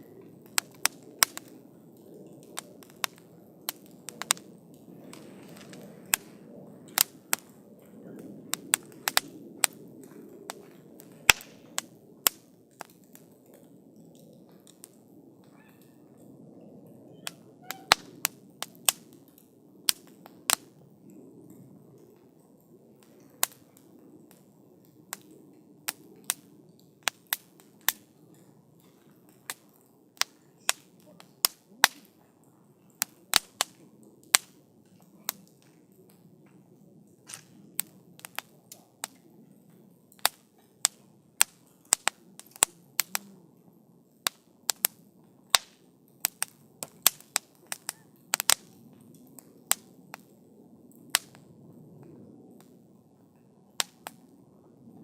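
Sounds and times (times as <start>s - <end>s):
campfire crackling: 0.0s - 55.0s
low rumble of flames: 0.0s - 55.0s
sharp pops and snaps: 0.2s - 7.6s, 8.2s - 15.0s, 17.2s - 20.8s, 23.0s - 36.6s, 37.2s - 43.4s, 44.2s - 50.3s, 51.0s - 51.4s, 53.8s - 54.3s.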